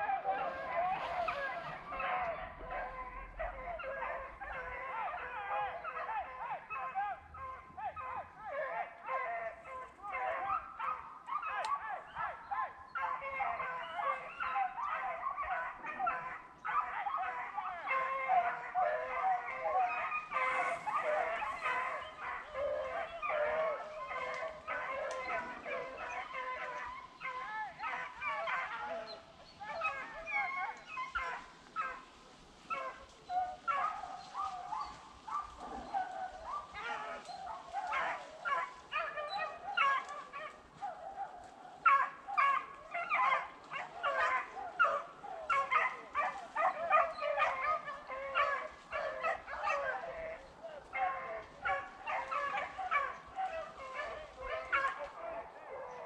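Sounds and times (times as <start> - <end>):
pack of hounds baying: 0.0 - 56.0.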